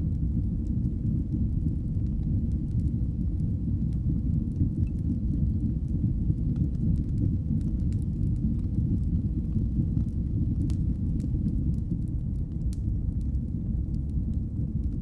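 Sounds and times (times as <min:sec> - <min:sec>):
fire crackles and pops: 0:00.0 - 0:15.0
wood fire roaring: 0:00.0 - 0:15.0.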